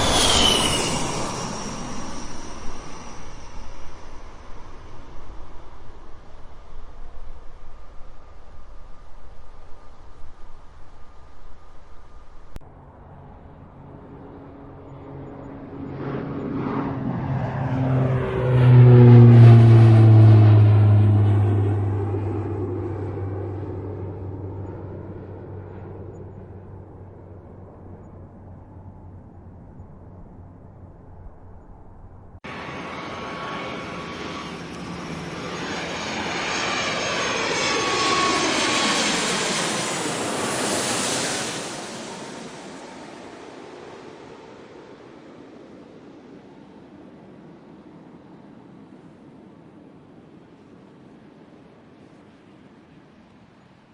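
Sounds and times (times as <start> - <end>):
airliner passing overhead: 0.0 - 53.9.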